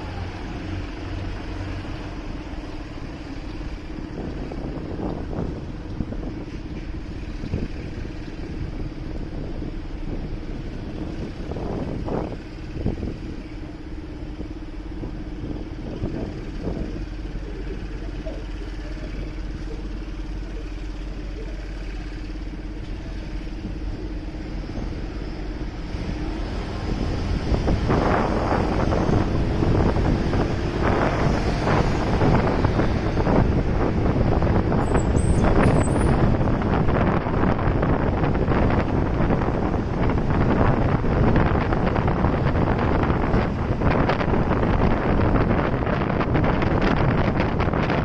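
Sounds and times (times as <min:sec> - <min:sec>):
motorcycle engine rumbling: 0:00.0 - 0:48.0
wind noise on microphone: 0:00.0 - 0:48.0.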